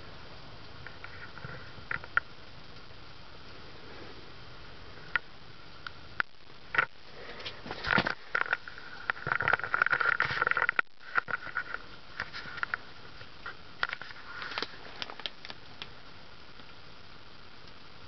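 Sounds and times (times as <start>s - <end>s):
ceiling fan clicks and ticks: 0.0s - 18.0s
faint fan whine: 0.0s - 18.0s.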